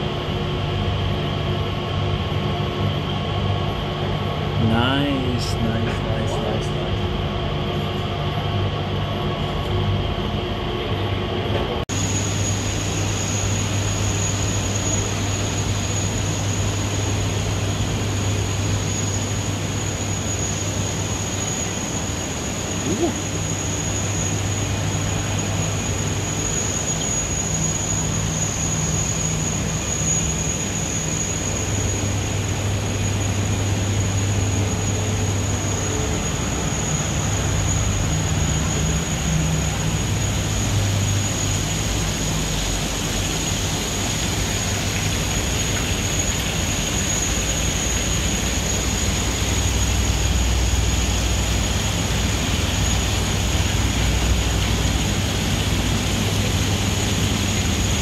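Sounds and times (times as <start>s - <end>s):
thin high-pitched whine: 0.0s - 7.0s, 11.6s - 58.0s.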